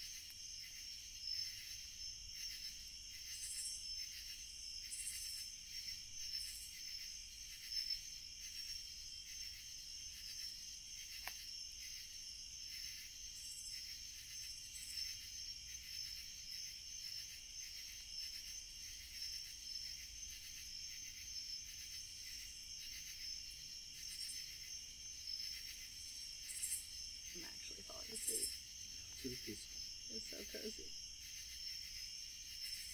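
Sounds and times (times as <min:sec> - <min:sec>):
night insects trilling: 0:00.0 - 0:32.9.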